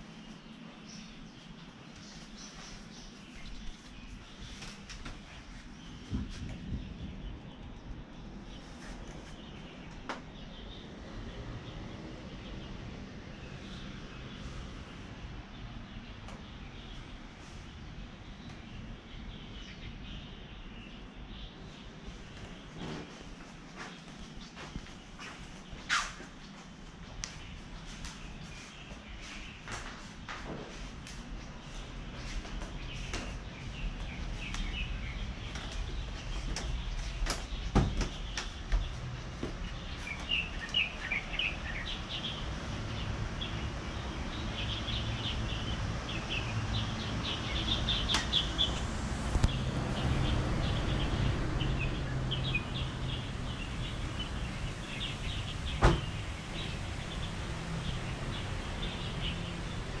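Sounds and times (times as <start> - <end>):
distant traffic rumble: 0.0 - 60.0
small birds chirping: 0.0 - 60.0.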